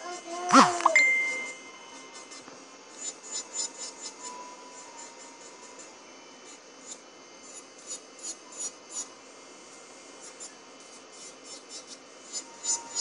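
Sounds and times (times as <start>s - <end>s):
nail drill whine: 0.0s - 13.0s
drill bit rasping on nail: 1.4s - 9.2s, 10.2s - 13.0s.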